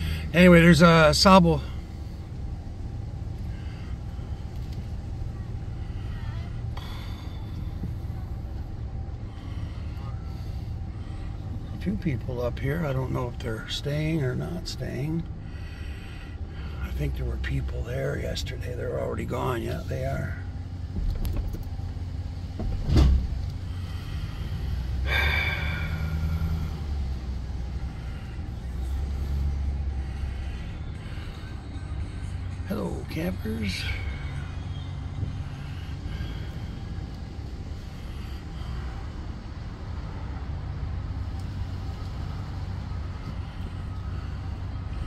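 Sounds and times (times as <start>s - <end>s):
truck engine and road rumble: 0.0s - 45.0s.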